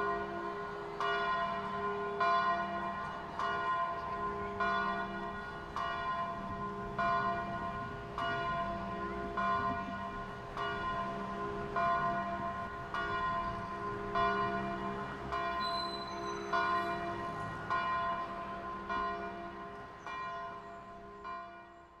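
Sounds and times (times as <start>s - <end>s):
bells tolling: 0.0s - 21.6s.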